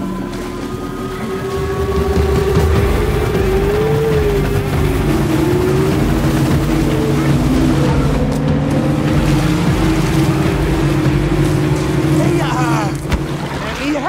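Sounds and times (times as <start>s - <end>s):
outboard motor drone: 0.0s - 14.0s
water rushing along hull: 0.0s - 14.0s.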